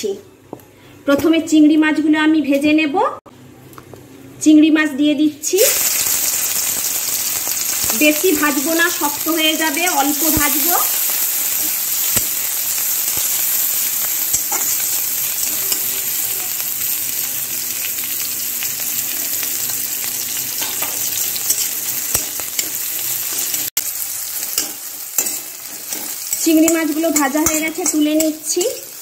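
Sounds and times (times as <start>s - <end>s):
shrimp sizzling in oil: 5.6s - 29.0s.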